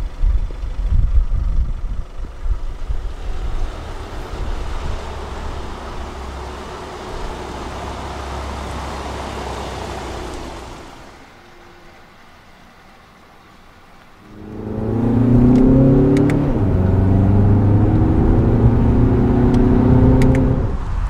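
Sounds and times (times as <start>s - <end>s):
diesel car engine hum: 0.0s - 21.0s.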